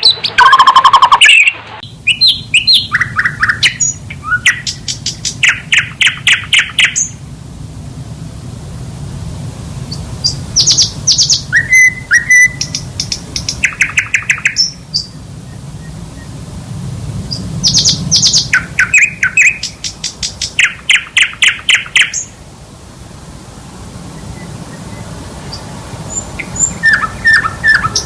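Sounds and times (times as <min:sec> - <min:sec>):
songbird trilling and chattering: 0:00.0 - 0:07.2, 0:09.8 - 0:16.4, 0:17.2 - 0:22.4, 0:24.1 - 0:28.0
low steady hum: 0:01.6 - 0:28.0.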